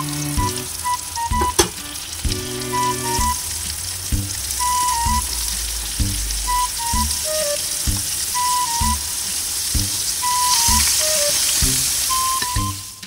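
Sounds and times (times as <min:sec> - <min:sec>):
background music: 0:00.0 - 0:13.0
food deep-frying in hot oil: 0:00.0 - 0:13.0.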